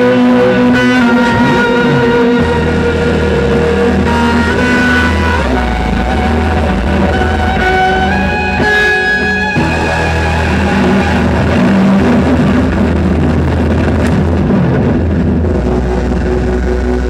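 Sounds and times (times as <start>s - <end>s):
electric guitar sustained notes: 0.0s - 17.0s
steady low drone: 0.0s - 17.0s.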